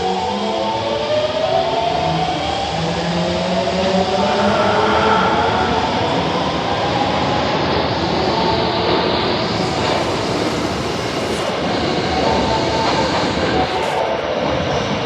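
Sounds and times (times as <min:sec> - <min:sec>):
subway train running: 0:00.0 - 0:15.0.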